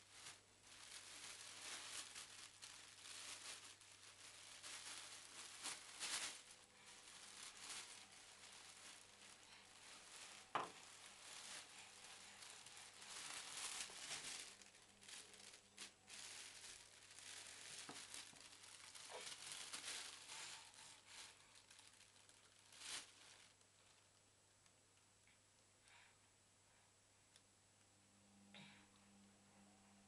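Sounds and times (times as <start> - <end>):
plastic bag crinkling: 0.0 - 24.2.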